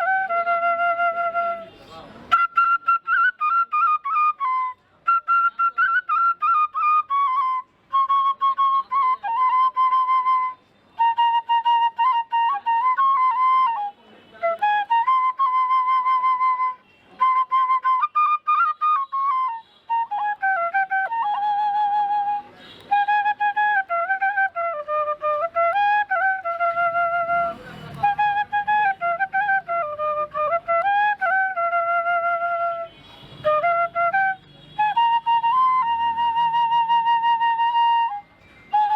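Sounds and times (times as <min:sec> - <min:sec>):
solo flute melody: 0:00.0 - 0:38.9.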